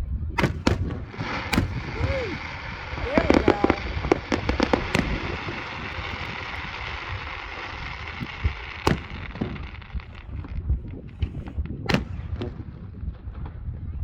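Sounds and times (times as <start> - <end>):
distant low booms: 0.0 - 14.0
fireworks crackling hiss: 0.4 - 12.7
firework sharp bang: 0.4 - 13.7.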